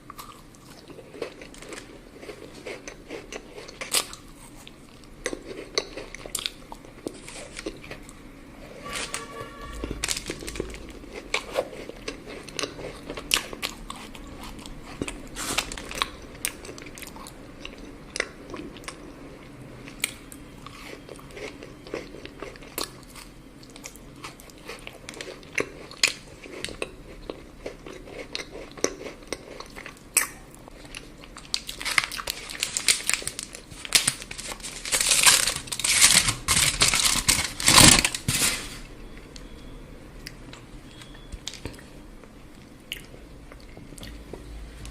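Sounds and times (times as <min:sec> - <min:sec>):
chocolate crunching and chewing: 0:00.0 - 0:08.2, 0:09.8 - 0:38.4.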